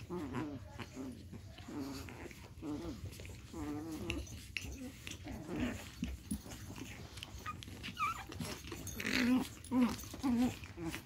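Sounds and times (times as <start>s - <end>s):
puppies growling and yipping: 0.0s - 11.0s
puppy whining: 0.0s - 11.0s
scuffling and rustling: 0.0s - 11.0s.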